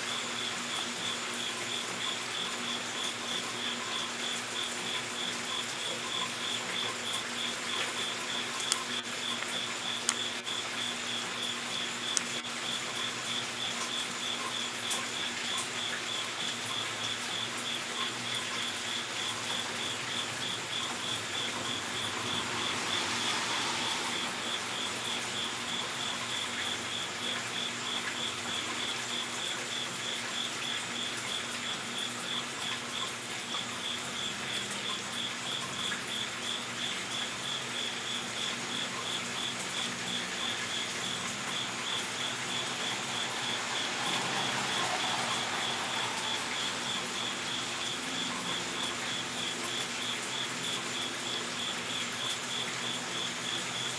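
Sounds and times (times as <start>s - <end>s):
outdoor hiss: 0.0s - 53.9s
insect chirping: 0.1s - 32.4s, 37.5s - 51.7s.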